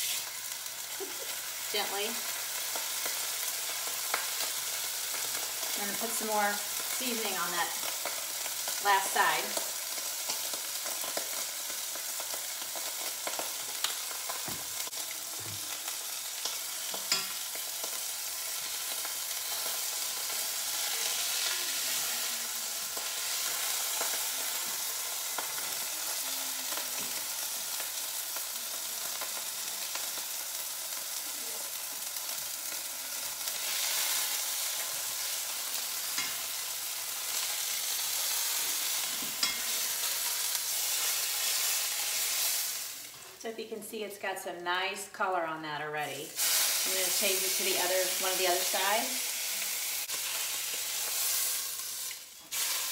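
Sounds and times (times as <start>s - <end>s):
steak sizzling in oil: 0.0s - 43.4s, 46.3s - 52.9s.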